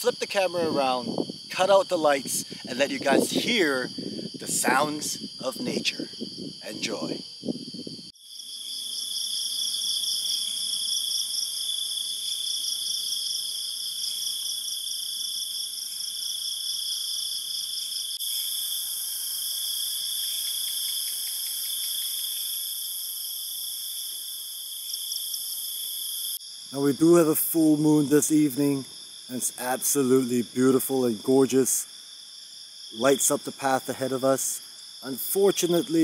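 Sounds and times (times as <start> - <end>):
night insects trilling: 0.0 - 36.0.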